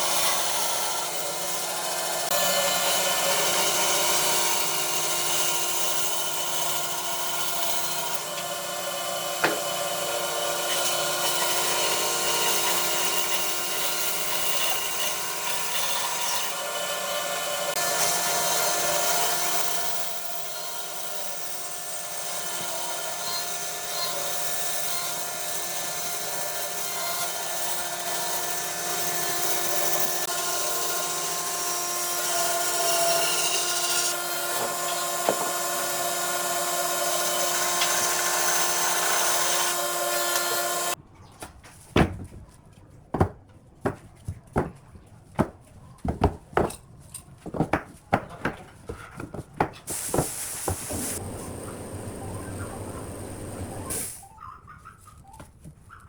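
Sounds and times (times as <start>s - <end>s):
electric power tool working wood: 0.0s - 41.0s, 50.1s - 54.1s.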